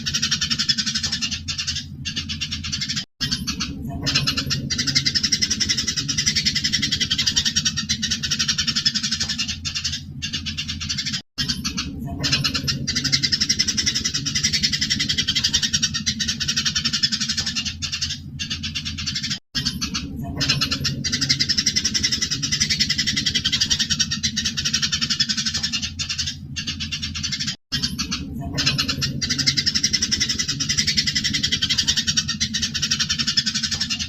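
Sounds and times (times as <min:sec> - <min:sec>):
low steady hum: 0:00.0 - 0:34.0
sparrows chirping: 0:00.0 - 0:34.0.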